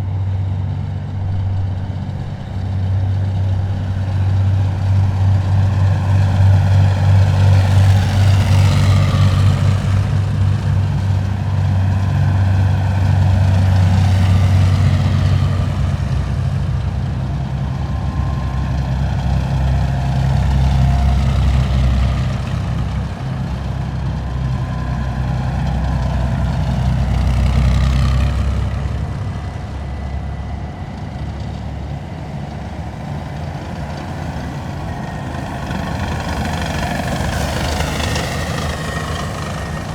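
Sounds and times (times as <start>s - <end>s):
heavy military vehicles driving past: 0.0s - 39.9s.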